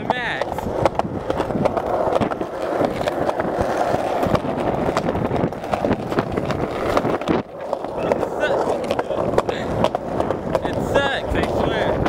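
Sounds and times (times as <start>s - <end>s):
skateboard wheels clacking over cracks: 0.0s - 12.0s
skateboard wheels rolling on concrete: 0.0s - 12.0s.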